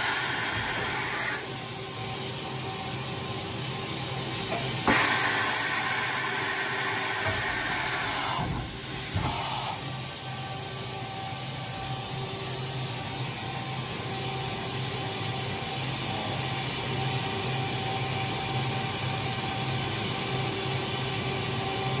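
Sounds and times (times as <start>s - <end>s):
machining center running: 0.0s - 20.4s.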